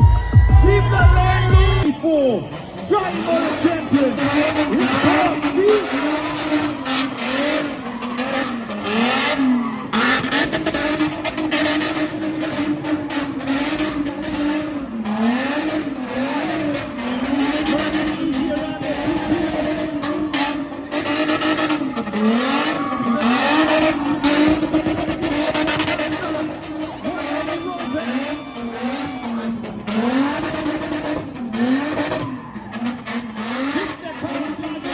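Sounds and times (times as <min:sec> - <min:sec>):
car engine at high revs: 0:02.4 - 0:34.9.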